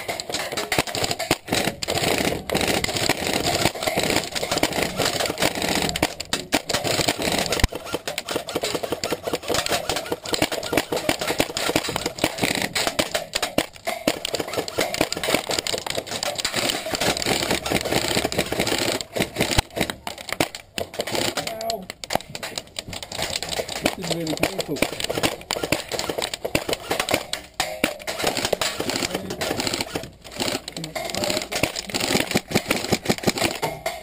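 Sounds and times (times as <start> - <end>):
airsoft gun rapid fire: 0.0 - 34.0
pellets pattering against tower: 0.0 - 34.0
sharp cracks: 0.0 - 34.0.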